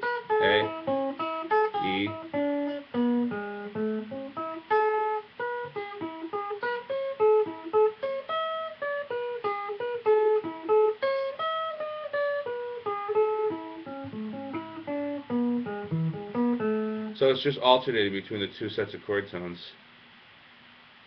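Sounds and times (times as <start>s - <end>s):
guitar picking single notes: 0.0s - 18.0s.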